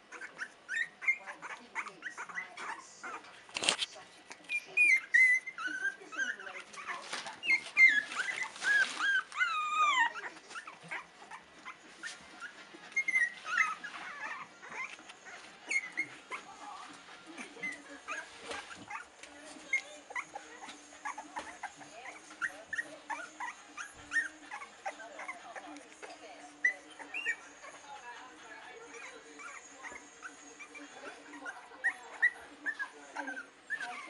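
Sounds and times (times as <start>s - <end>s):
puppies whimpering and squeaking: 0.0s - 3.8s, 4.4s - 34.0s.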